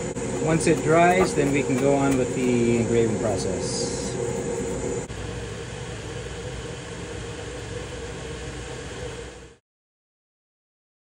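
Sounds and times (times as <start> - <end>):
laser engraver fan hum: 0.0 - 9.6.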